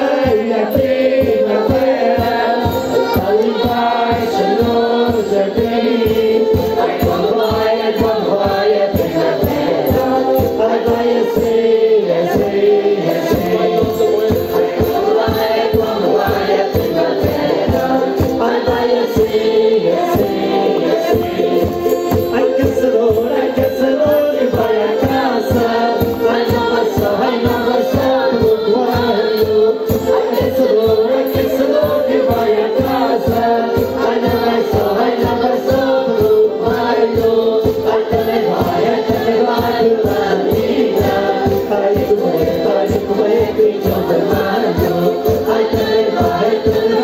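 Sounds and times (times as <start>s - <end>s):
group of voices singing: 0.0s - 47.0s
steady drum beat: 0.0s - 47.0s.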